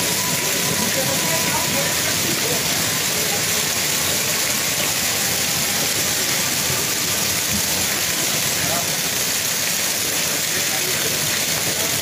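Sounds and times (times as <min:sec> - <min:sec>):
hail and rain falling hard: 0:00.0 - 0:12.0.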